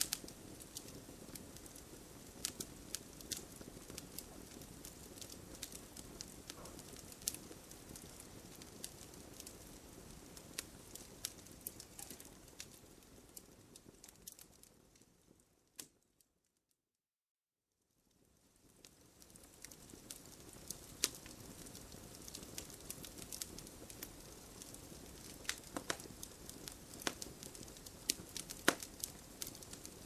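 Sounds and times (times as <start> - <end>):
wood fire crackling: 0.0 - 16.2, 18.0 - 30.0.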